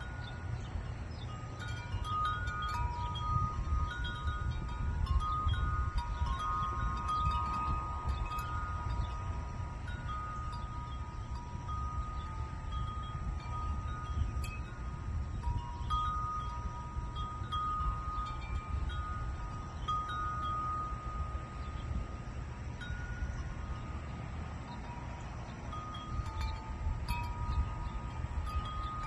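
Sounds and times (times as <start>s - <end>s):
wind chimes ringing: 0.0s - 29.0s.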